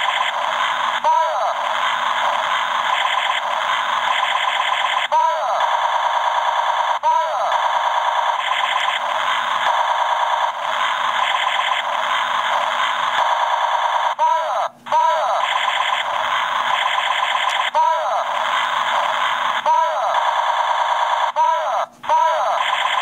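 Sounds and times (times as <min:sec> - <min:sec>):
toy gun electronic pulses: 0:00.0 - 0:23.0.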